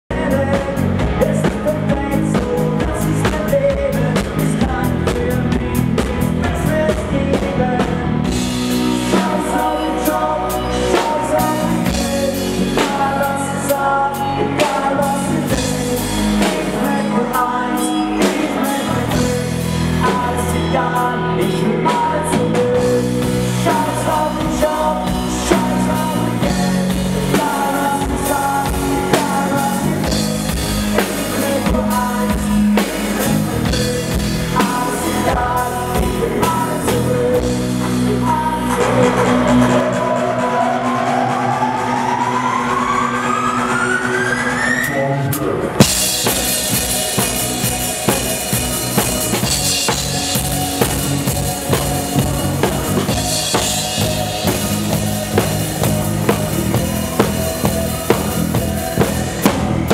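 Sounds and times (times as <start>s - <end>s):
man singing: 0.0s - 41.9s, 44.8s - 59.9s
live rock band playing: 0.1s - 59.9s.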